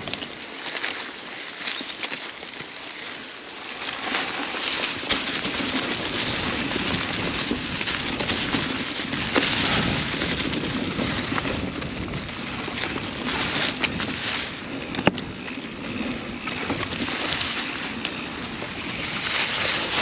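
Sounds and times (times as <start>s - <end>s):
tyre and wind noise: 0.0s - 20.0s.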